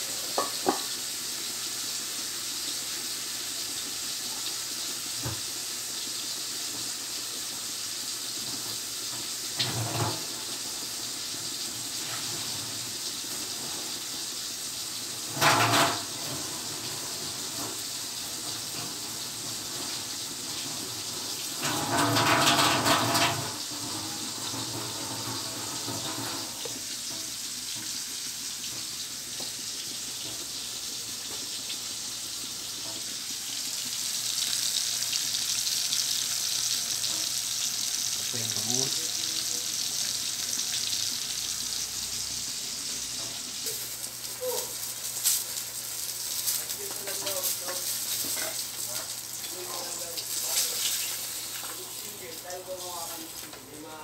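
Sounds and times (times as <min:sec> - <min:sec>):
food frying in oil: 0:00.0 - 0:54.0
food sizzling in a wok: 0:00.0 - 0:54.0.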